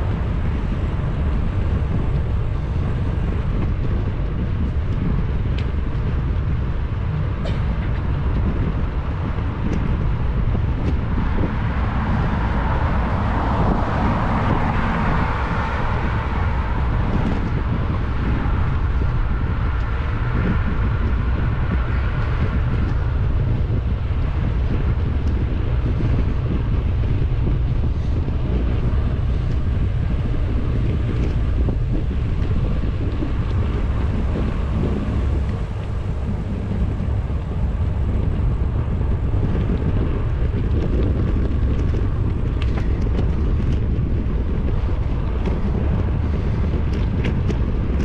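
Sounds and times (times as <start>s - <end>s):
passing vehicle: 0.0s - 48.0s
road rumble: 0.0s - 48.0s
wind on microphone: 0.0s - 48.0s.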